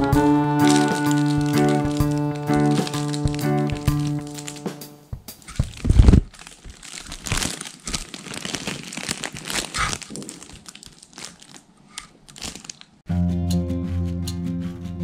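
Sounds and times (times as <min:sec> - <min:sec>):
fabric tunnel crackling and rustling: 0:00.0 - 0:04.8, 0:05.4 - 0:13.0.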